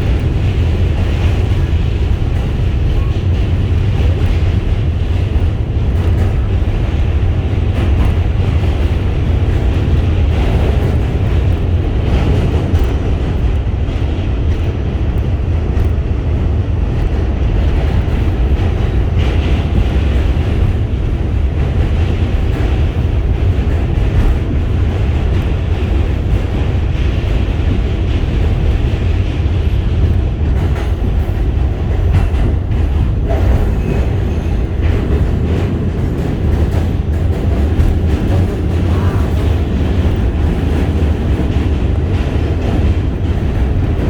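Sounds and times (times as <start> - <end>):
train rumbling along track: 0.0 - 44.0.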